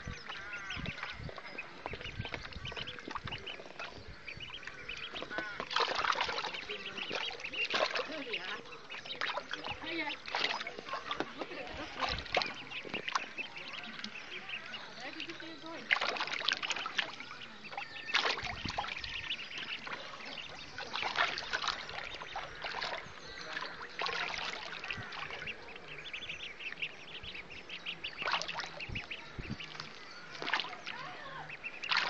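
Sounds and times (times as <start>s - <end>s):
ducklings peeping: 0.0s - 32.0s
splashing in shallow water: 0.0s - 32.0s.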